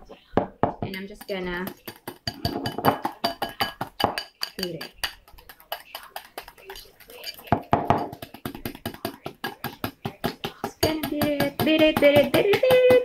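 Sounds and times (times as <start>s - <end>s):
whisk clinking in glass bowl: 0.9s - 13.0s.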